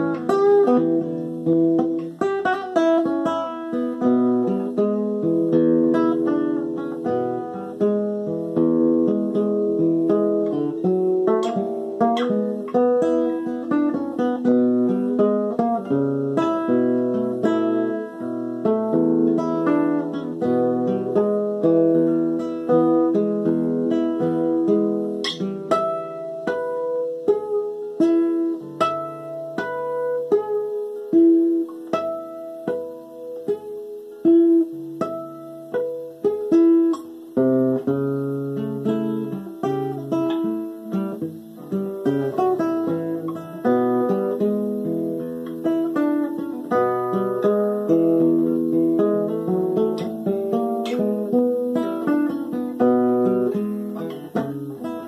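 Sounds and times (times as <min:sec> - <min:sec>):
fingerpicked acoustic blues guitar: 0:00.0 - 0:55.0.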